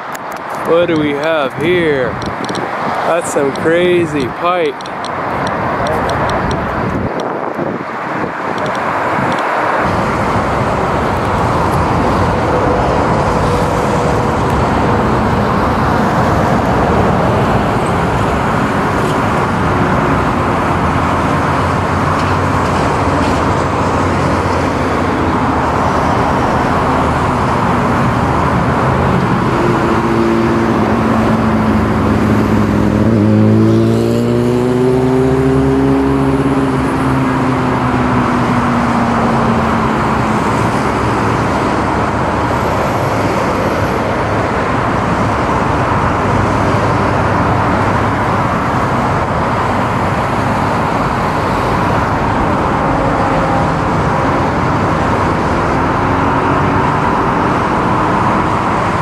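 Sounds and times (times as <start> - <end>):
engine rising and falling in pitch: 0.0 - 59.0
road traffic noise: 0.0 - 59.0.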